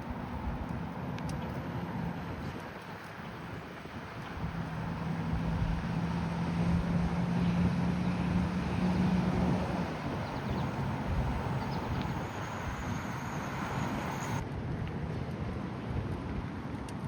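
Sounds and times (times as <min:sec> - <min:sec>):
wind over microphone: 0:00.0 - 0:17.0.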